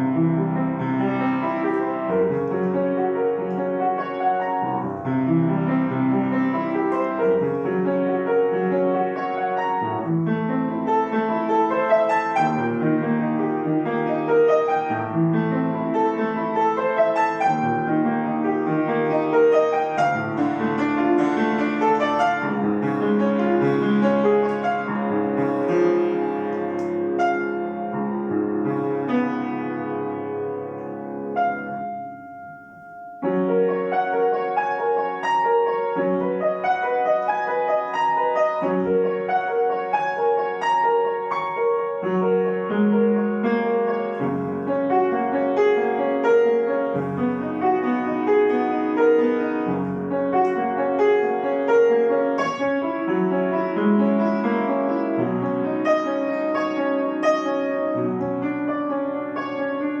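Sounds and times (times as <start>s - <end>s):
solo piano: 0.0s - 60.0s.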